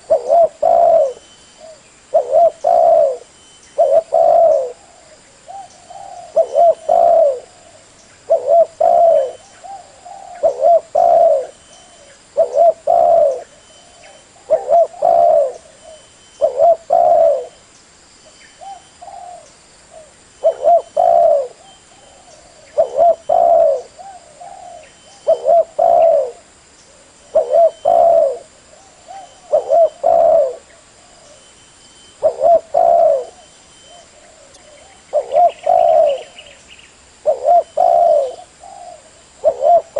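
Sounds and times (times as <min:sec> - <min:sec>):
dove cooing: 0:00.0 - 0:17.6, 0:18.6 - 0:31.5, 0:32.2 - 0:36.6, 0:37.2 - 0:39.9.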